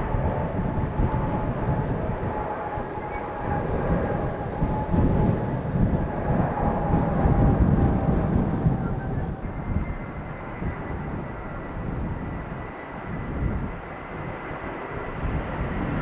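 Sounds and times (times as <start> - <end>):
jet engine whine: 0.0 - 16.0
jet engines rumbling: 0.0 - 16.0.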